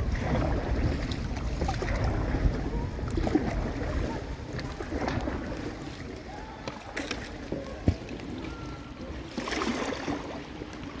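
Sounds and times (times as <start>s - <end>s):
kayak paddling in water: 0.0s - 11.0s
soft splashes and drips: 0.0s - 11.0s
wind rumble on microphone: 0.0s - 11.0s.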